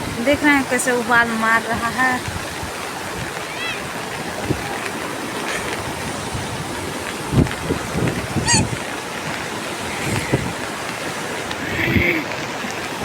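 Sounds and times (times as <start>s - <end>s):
river water rushing: 0.0s - 13.0s
wind thumps on microphone: 0.0s - 13.0s.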